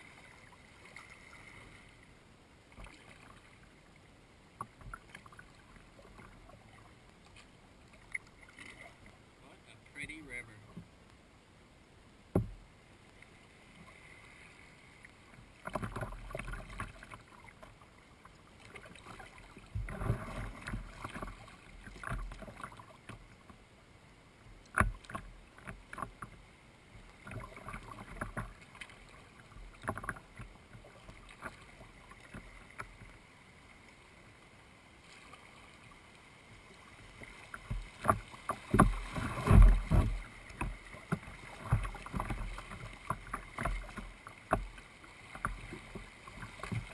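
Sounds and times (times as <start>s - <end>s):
paddle splashing in water: 2.7s - 3.7s, 4.6s - 10.9s, 12.3s - 23.7s, 24.5s - 34.1s, 35.0s - 46.9s.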